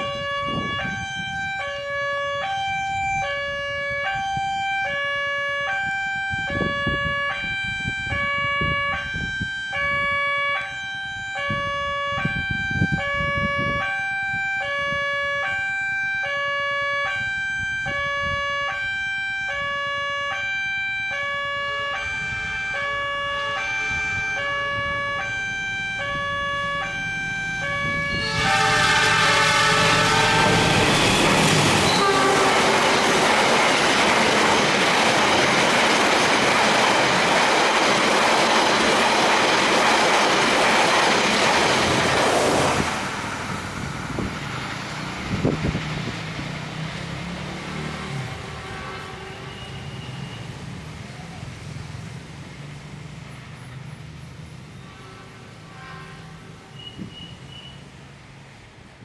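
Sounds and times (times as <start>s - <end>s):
level crossing warning siren: 0.0s - 51.6s
approaching train: 0.0s - 59.0s.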